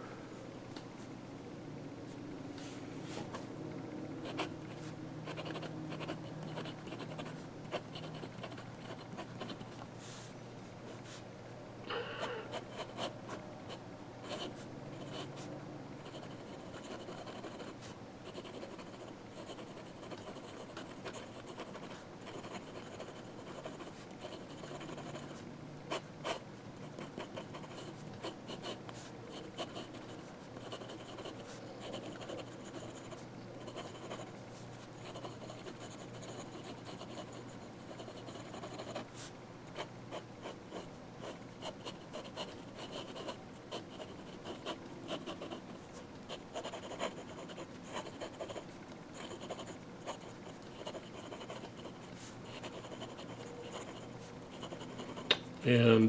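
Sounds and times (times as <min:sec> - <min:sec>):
pen nib scratching on paper: 0:04.2 - 0:09.8, 0:12.5 - 0:13.4, 0:14.3 - 0:34.3, 0:34.9 - 0:55.3.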